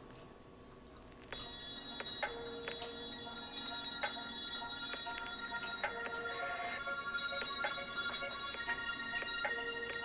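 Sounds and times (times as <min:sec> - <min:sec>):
bell-like notes: 0:01.4 - 0:10.0.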